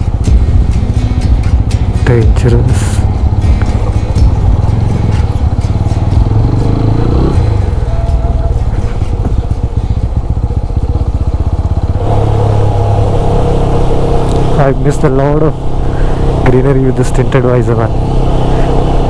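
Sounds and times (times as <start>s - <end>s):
motorcycle engine riding: 0.0s - 19.0s.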